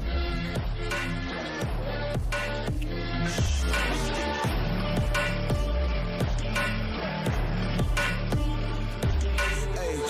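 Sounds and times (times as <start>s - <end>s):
deep bass line: 0.0s - 10.0s
music with sustained tones: 0.0s - 10.0s.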